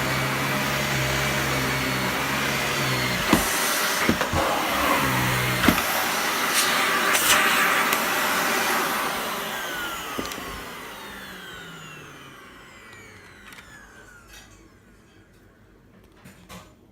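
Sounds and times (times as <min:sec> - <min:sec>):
vacuum cleaner motor winding down: 0:00.0 - 0:15.6.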